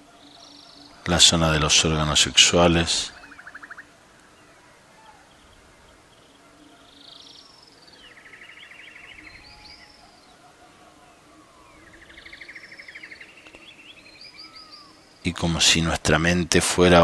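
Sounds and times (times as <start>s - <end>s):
bird singing high notes and trill: 0.0s - 17.0s.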